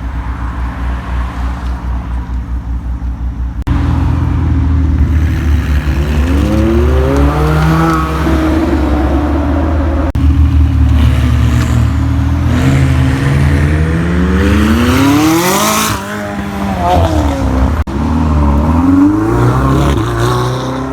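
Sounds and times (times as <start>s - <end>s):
car engine revving: 3.6s - 20.9s.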